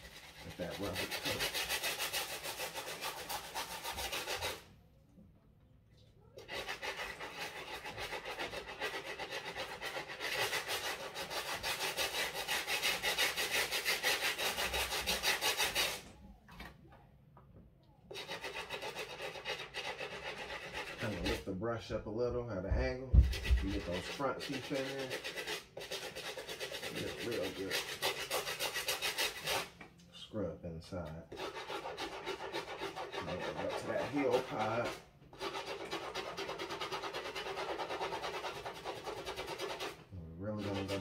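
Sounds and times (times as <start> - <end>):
brush scrubbing sneaker sole: 0.0 - 4.6, 6.4 - 16.0, 18.2 - 21.4, 23.2 - 29.7, 31.4 - 41.0.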